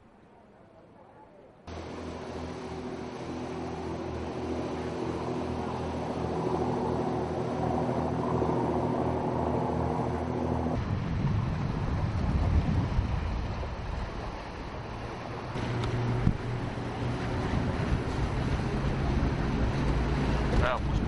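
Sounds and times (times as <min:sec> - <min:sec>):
engine humming: 0:01.6 - 0:21.0
rushing water: 0:01.7 - 0:21.0
wind buffeting microphone: 0:03.0 - 0:21.0.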